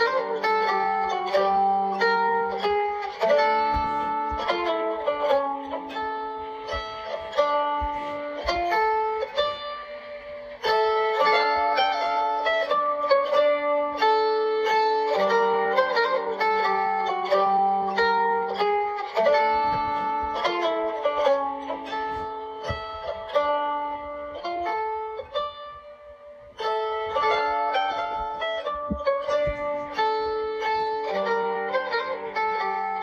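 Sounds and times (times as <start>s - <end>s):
plucked string music: 0.0s - 33.0s.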